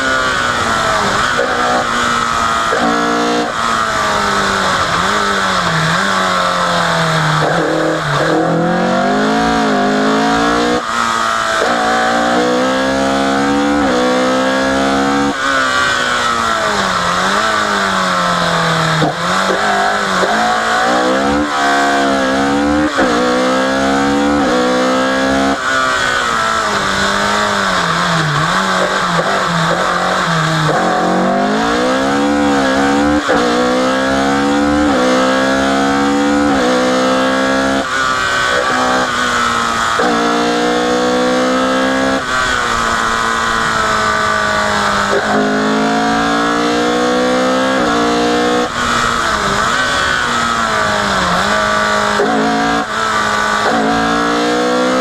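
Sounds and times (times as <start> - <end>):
rally car engine accelerating: 0.0 - 55.0.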